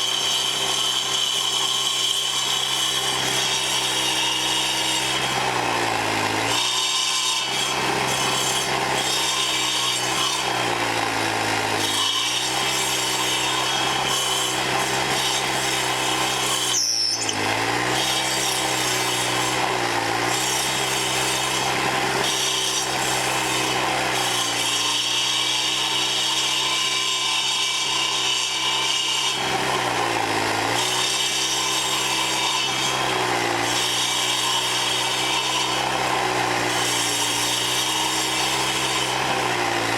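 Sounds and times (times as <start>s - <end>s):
saw blades grinding wood: 0.0s - 39.9s.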